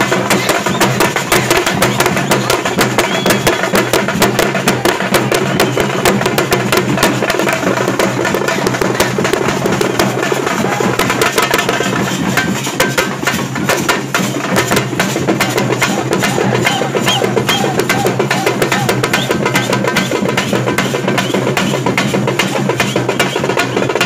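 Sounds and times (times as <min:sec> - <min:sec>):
loud fast drumming: 0:00.0 - 0:24.0.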